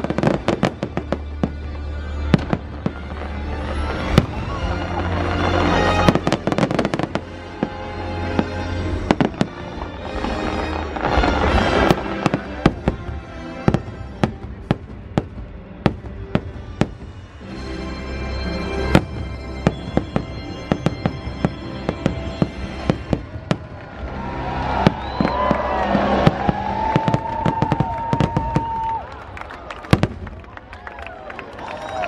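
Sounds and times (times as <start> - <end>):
fireworks bursting with sharp bangs: 0.0 - 1.6, 2.2 - 17.5, 18.8 - 24.0, 24.6 - 29.0
music soundtrack: 0.0 - 32.0.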